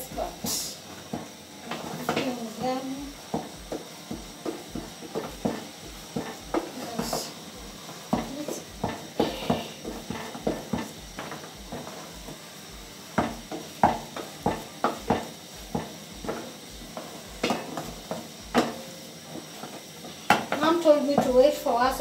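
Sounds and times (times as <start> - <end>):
wooden stick knocking on pot: 0.0 - 12.1, 13.1 - 18.9, 19.6 - 21.5.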